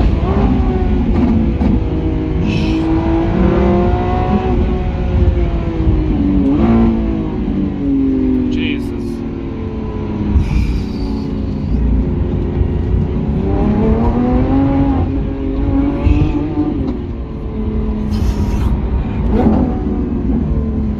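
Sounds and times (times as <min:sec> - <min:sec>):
low road noise: 0:00.0 - 0:20.9
sports car engine revving: 0:00.0 - 0:20.9.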